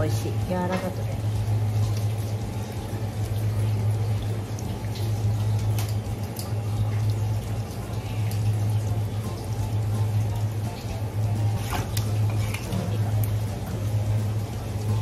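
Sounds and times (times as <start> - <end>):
steady low hum: 0.0 - 15.0
tap water running into sink: 0.0 - 15.0.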